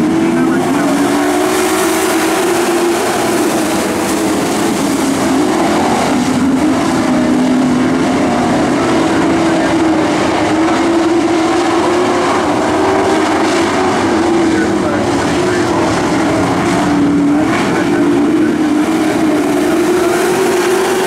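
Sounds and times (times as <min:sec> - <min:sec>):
race truck engines droning: 0:00.0 - 0:21.0.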